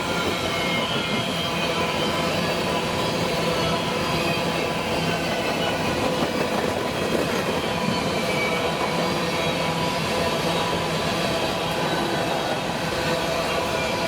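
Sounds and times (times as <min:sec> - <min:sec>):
freight train rolling past: 0:00.0 - 0:14.0.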